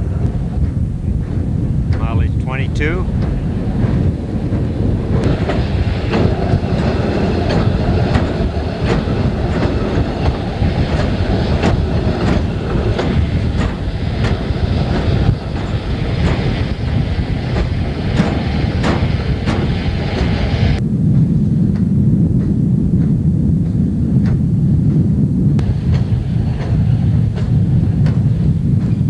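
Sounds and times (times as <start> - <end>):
rail truck rumbling: 0.0 - 29.0
wheels clicking over rail joints: 3.1 - 20.5, 21.8 - 29.0.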